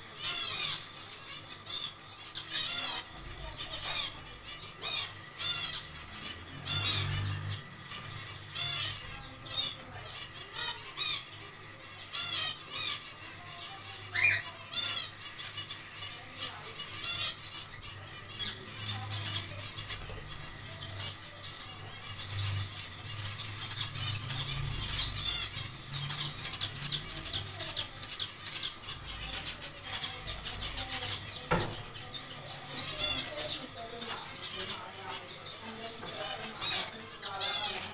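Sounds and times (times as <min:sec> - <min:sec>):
finches calling: 0:00.0 - 0:37.9.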